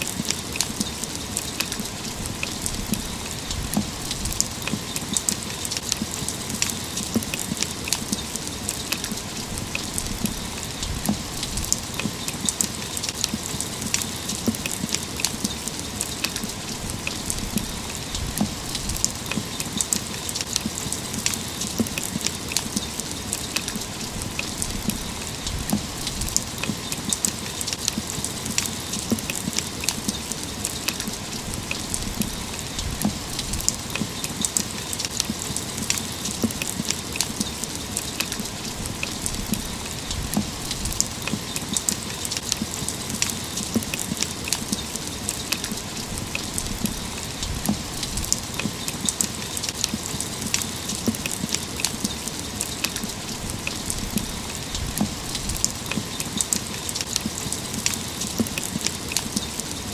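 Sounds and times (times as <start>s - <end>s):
raindrops ticking on hard surface: 0.0s - 59.9s
steady rain: 0.0s - 59.9s.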